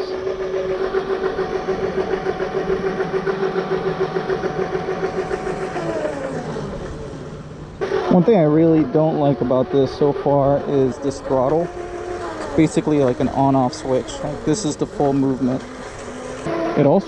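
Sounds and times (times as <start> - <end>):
electric scooter motor whine: 0.0 - 17.0.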